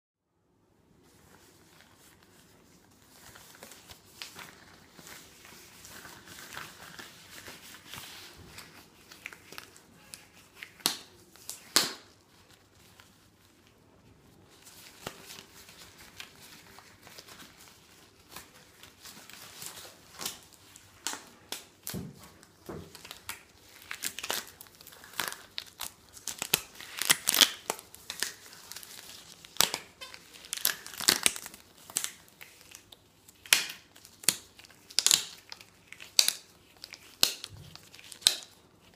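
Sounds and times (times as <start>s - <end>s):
latex gloves crinkling and rubbing: 0.9s - 38.9s.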